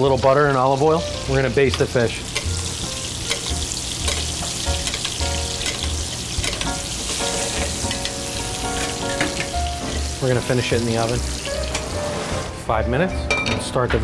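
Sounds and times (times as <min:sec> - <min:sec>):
fish sizzling in a pan: 0:00.0 - 0:12.5.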